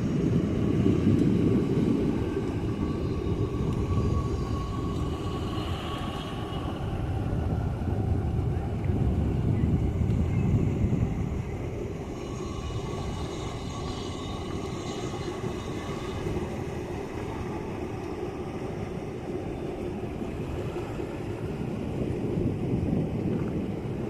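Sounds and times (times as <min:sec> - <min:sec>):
sea surf rumble: 0:00.0 - 0:24.0
wind on microphone: 0:00.0 - 0:24.0.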